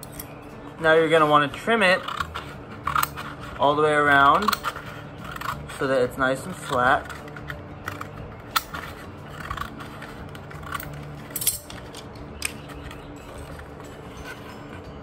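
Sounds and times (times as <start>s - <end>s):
paper handling: 1.4s - 14.8s.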